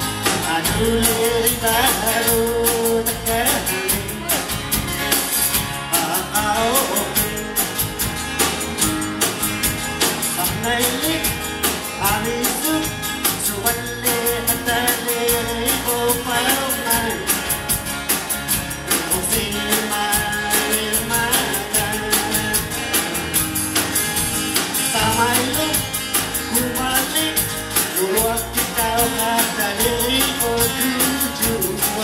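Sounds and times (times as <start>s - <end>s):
man singing: 0.0s - 4.9s, 5.7s - 8.1s, 10.2s - 17.8s, 18.8s - 23.7s, 24.8s - 32.0s
acoustic guitar strumming: 0.0s - 32.0s
bass guitar: 0.0s - 32.0s
drum kit beat: 0.0s - 32.0s
electric guitar: 0.0s - 32.0s.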